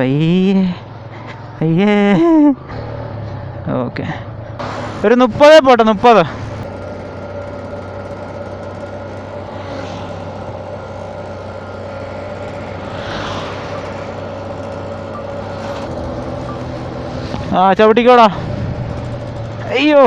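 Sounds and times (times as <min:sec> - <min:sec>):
motorcycle engine cruising: 0:00.0 - 0:20.0
road and wind noise: 0:00.0 - 0:20.0.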